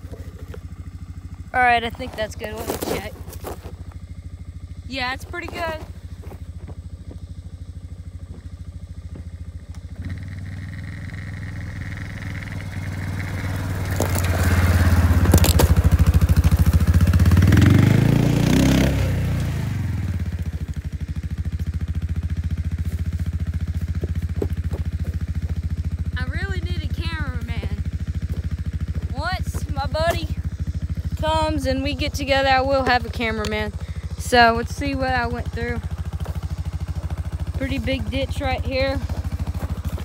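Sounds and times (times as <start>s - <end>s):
tyres crunching over dirt: 0.0s - 10.3s, 11.2s - 40.0s
atv engine running: 0.0s - 40.0s.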